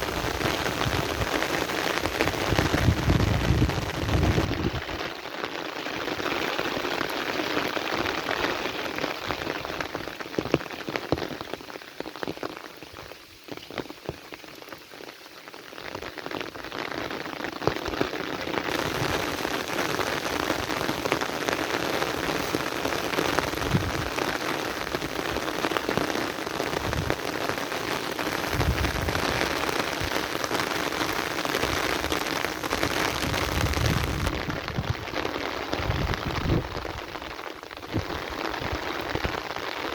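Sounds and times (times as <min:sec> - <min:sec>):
heavy rain hissing: 0:00.0 - 0:14.0, 0:18.2 - 0:39.9.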